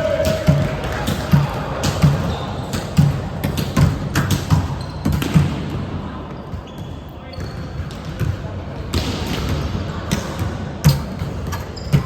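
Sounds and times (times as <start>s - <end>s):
ball bouncing on court floor: 0.0s - 5.8s, 6.6s - 12.0s.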